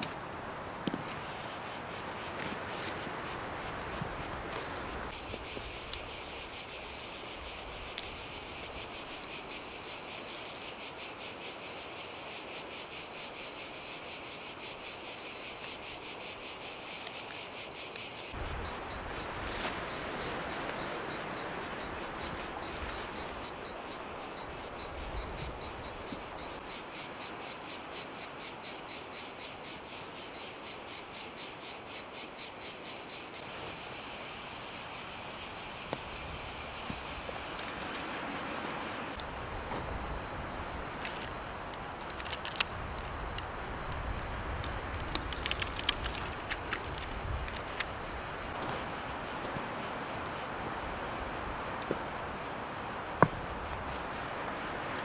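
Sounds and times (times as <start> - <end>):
insects pulsing chorus: 0.0 - 55.0.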